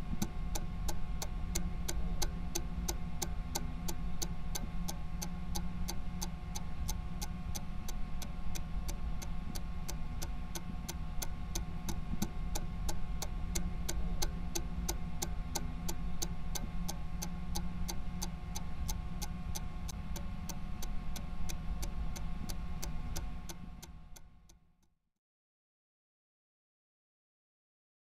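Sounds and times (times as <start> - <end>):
low droning hum: 0.0 - 24.4
clock-like ticking: 0.1 - 24.3.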